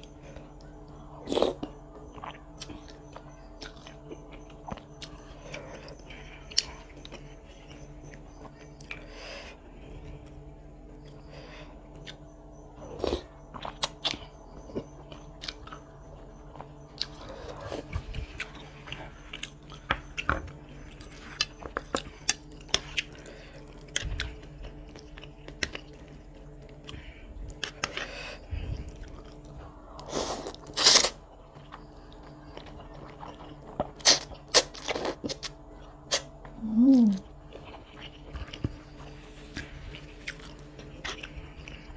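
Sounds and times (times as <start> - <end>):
wet chewing and mouth clicks: 0.1 - 9.1, 12.9 - 28.1, 28.8 - 36.5, 37.2 - 41.9.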